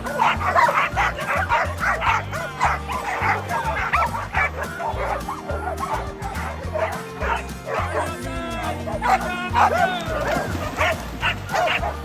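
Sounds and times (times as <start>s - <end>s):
background music with bass: 0.0s - 12.0s
dog whining: 0.0s - 12.0s
dogs barking and yipping: 0.0s - 12.0s.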